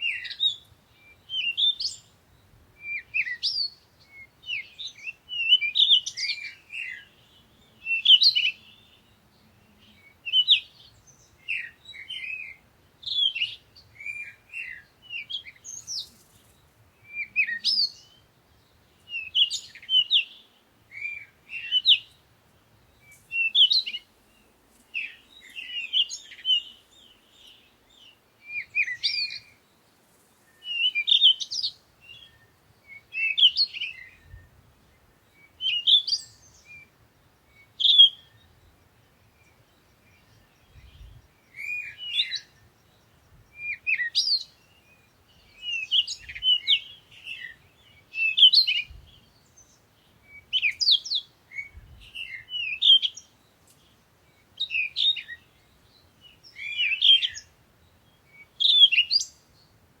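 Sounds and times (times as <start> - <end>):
songbird chirping: 0.0 - 60.0.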